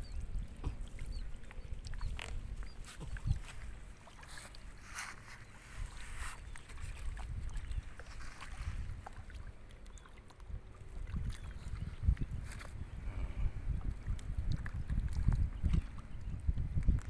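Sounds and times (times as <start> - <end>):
wind buffeting microphone: 0.0 - 9.6, 10.4 - 17.0.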